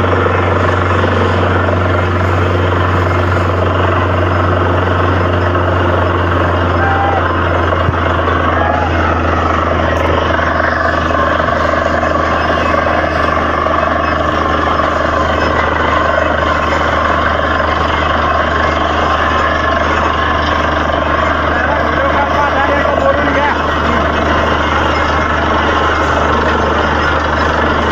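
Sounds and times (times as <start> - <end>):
drilling rig running: 0.0 - 27.9.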